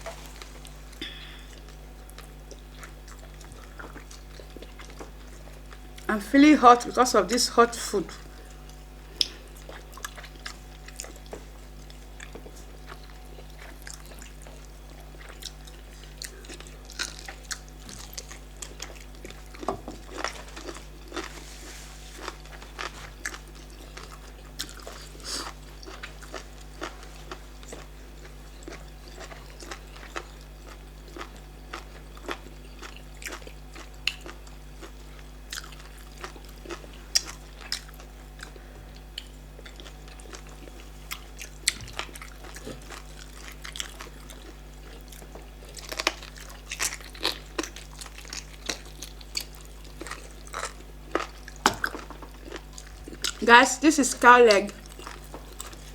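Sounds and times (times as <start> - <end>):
chewing and biting: 0.0 - 6.1, 8.4 - 21.4, 22.1 - 53.4, 54.7 - 55.9
faint steady hum: 0.0 - 55.9.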